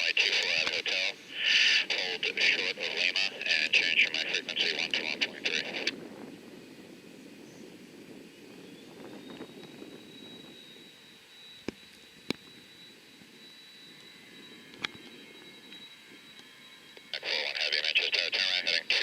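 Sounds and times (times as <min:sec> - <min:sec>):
distant jet engines whining: 0:00.0 - 0:19.0.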